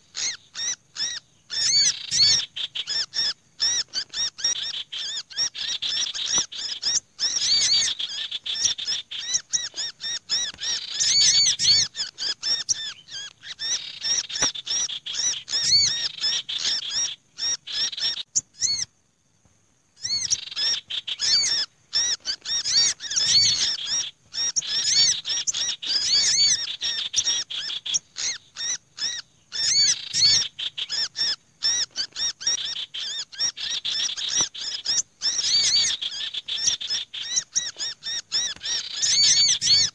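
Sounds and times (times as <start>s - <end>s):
songbirds chirping and chattering: 0.0s - 39.9s.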